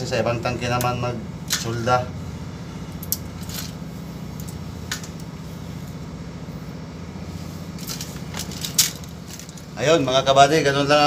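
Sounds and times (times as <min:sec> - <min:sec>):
ship machinery humming: 0:00.0 - 0:11.0.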